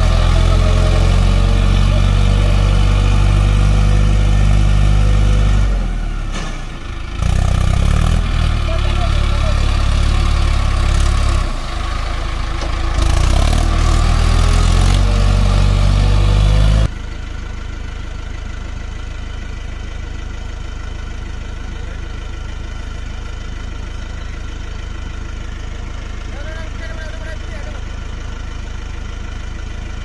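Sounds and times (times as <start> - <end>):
tractor engine idling: 0.0 - 30.0
tractor engine revving: 0.0 - 30.0.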